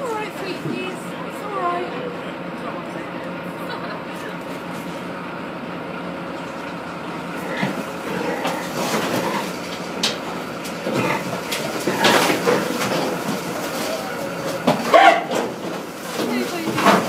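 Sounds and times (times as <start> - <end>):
truck running noise: 0.0 - 17.0.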